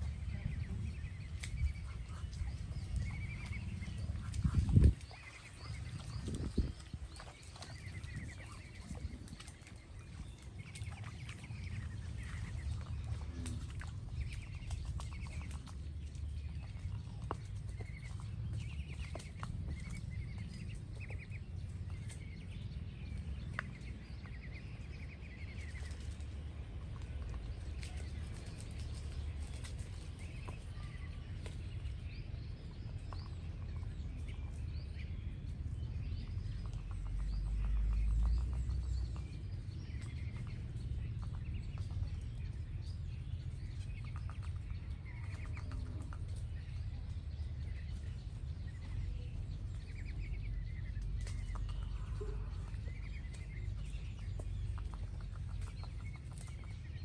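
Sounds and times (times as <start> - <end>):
ducklings peeping and chirping: 0.0 - 57.0
steady low rumble: 0.0 - 57.0.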